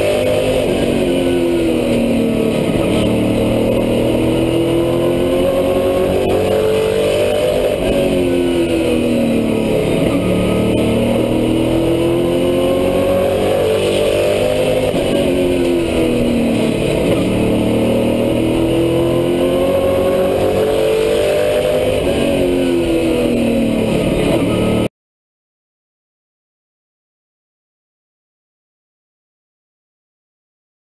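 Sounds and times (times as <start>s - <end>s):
race truck engine revving: 0.0s - 24.9s.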